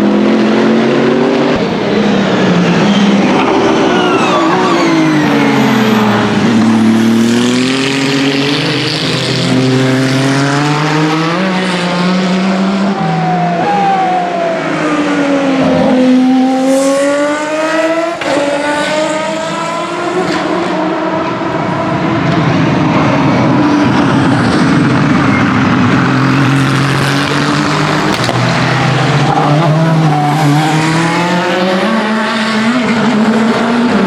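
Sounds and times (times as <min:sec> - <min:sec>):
race cars passing at speed: 0:00.0 - 0:34.0.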